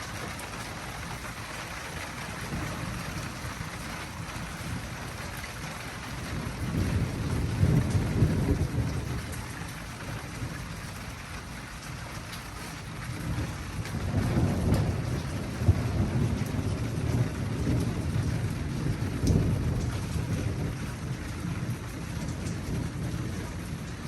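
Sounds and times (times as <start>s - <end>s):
rain hissing: 0.0s - 24.0s
thunder rumbling: 2.1s - 10.9s, 12.9s - 24.0s.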